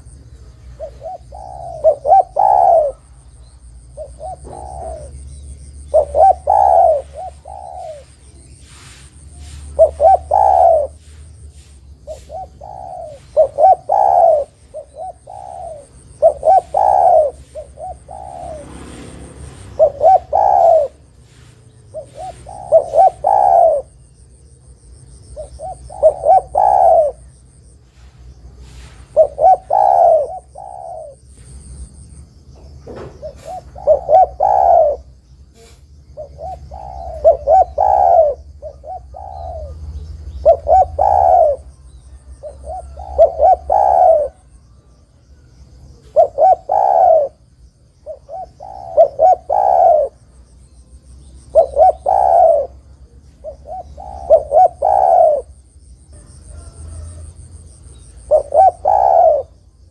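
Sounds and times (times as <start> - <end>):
dove cooing: 0.0 - 32.0, 32.6 - 59.9.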